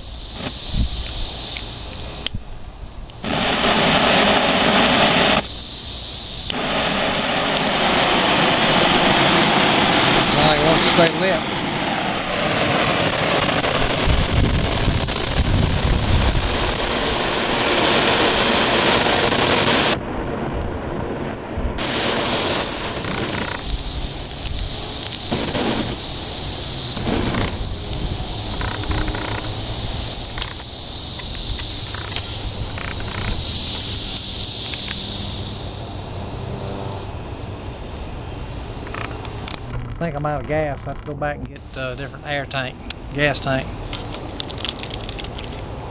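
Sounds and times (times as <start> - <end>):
crackles: 0.0 - 20.1, 21.7 - 36.7, 38.5 - 45.9
propane burner hissing: 0.0 - 20.2, 20.9 - 45.9.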